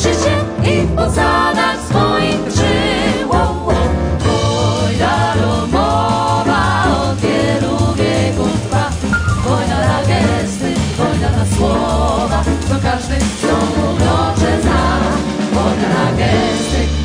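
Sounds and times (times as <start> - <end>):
double bass: 0.0 - 17.0
drums: 0.0 - 17.0
jazz vocal group singing: 0.0 - 17.0
piano: 0.0 - 17.0.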